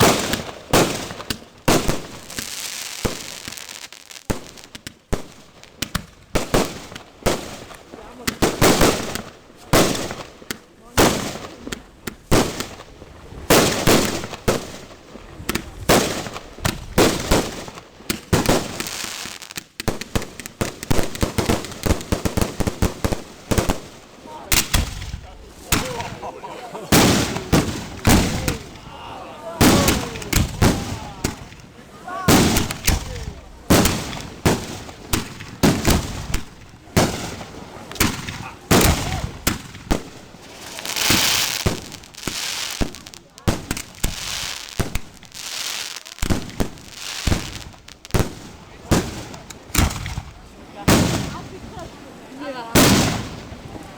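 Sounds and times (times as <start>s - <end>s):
fireworks crackling: 0.0s - 53.9s.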